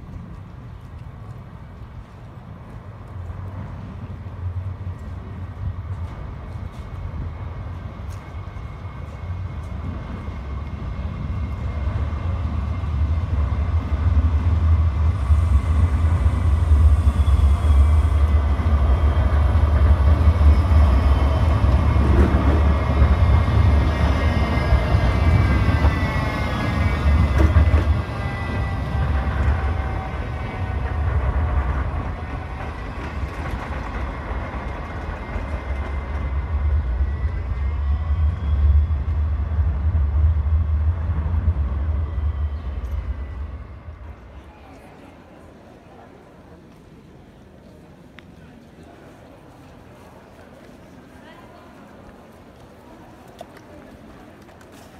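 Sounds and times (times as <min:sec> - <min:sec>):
tram drive whine: 0:00.0 - 0:51.0
tram wheels rumbling on track: 0:00.0 - 0:54.9.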